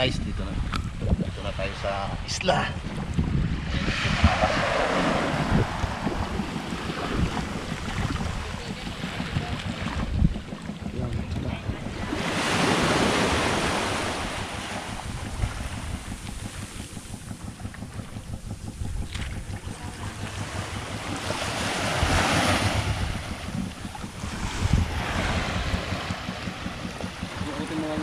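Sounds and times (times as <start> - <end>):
wind buffeting microphone: 0.0 - 28.0
water splashing against boat hull: 0.6 - 28.0.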